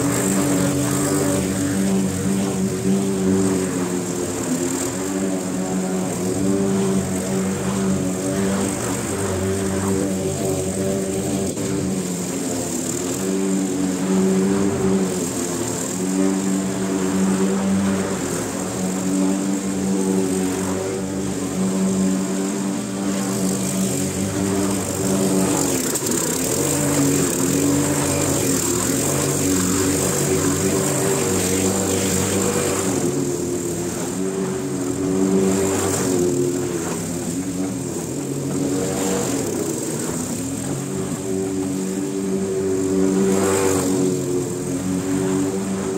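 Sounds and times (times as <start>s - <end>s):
lawn mower engine cutting grass: 0.0s - 45.9s.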